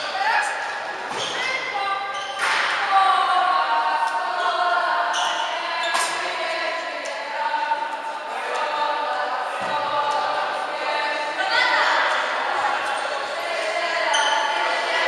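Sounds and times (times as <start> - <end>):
players shouting in a hall: 0.0 - 15.0.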